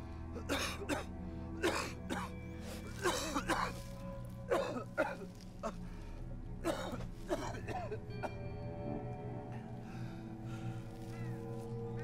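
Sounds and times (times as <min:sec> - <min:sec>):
low music drone: 0:00.0 - 0:12.0.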